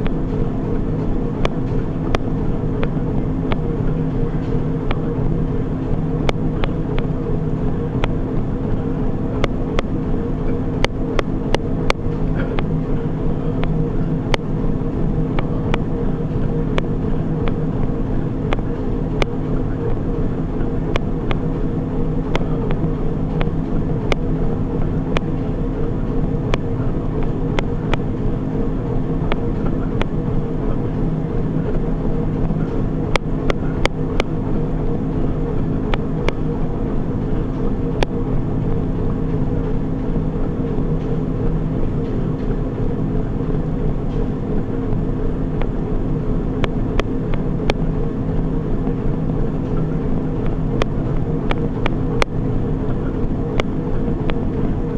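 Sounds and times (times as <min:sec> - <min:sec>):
treadmill motor and belt hum: 0:00.0 - 0:54.9.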